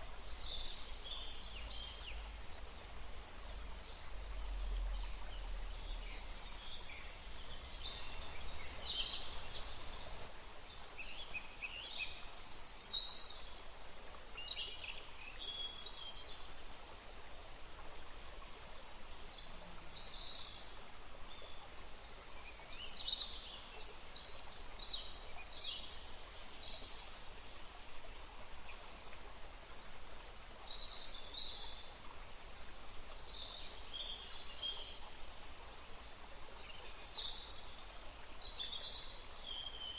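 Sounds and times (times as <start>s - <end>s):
flowing water: 0.0s - 39.9s
wind in trees: 0.0s - 39.9s.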